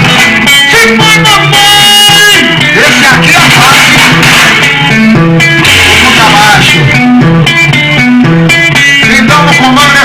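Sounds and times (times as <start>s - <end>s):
plucked guitar-like riff: 0.0s - 10.0s
stepping bass line: 0.0s - 10.0s.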